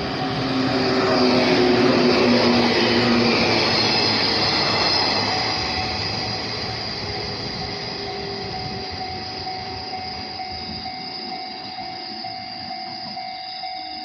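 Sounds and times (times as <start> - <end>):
electric train rumble: 0.0 - 14.0
level crossing warning bell: 0.0 - 14.0.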